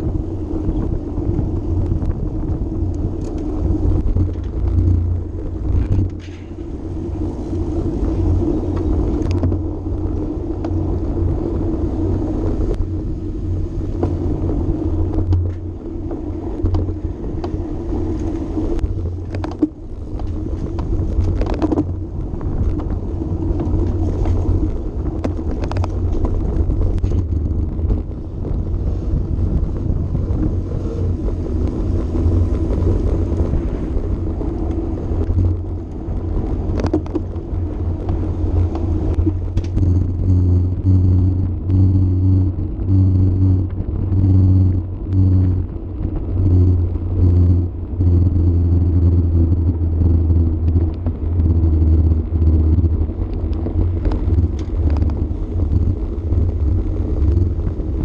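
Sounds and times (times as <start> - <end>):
bike tyres rolling on track: 0.0 - 58.0
wind rumble on microphone: 0.0 - 58.0.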